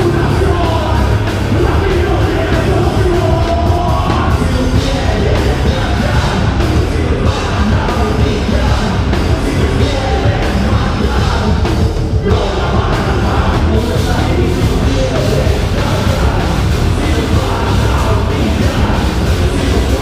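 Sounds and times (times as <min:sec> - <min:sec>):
heavy rock band playing: 0:00.0 - 0:20.0.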